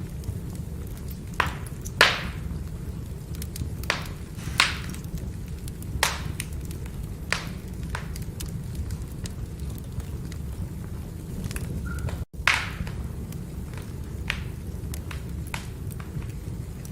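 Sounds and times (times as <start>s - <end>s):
firewood crackling and popping: 0.0s - 16.9s
low rumble of flames: 0.0s - 16.9s.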